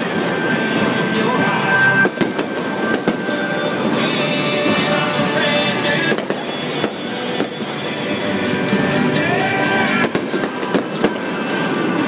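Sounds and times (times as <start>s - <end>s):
fireworks bangs: 0.0s - 8.9s, 9.8s - 12.0s
music over stadium loudspeakers: 0.0s - 12.0s.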